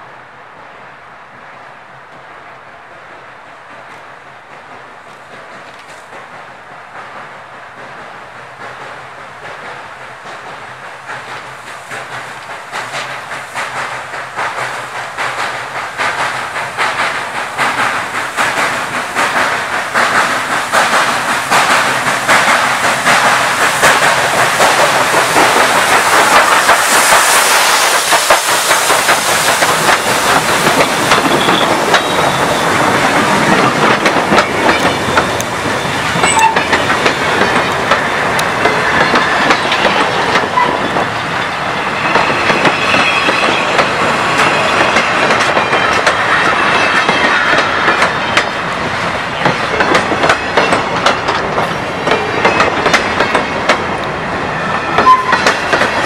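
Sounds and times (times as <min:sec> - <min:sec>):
steam locomotive chuffing: 0:04.6 - 0:56.0
steam hiss: 0:04.8 - 0:56.0.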